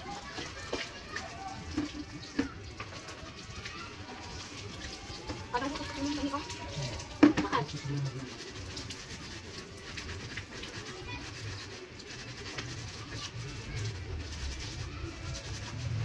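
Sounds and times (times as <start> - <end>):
hose water splashing on concrete: 0.0 - 16.0.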